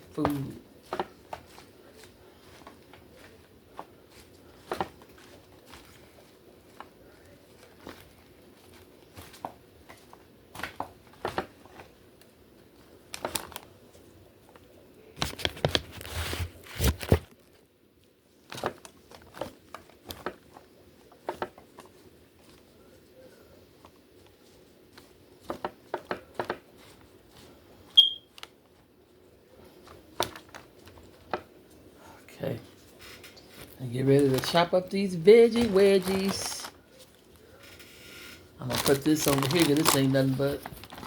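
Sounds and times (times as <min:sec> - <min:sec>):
salad greens rustling: 0:00.0 - 0:41.0.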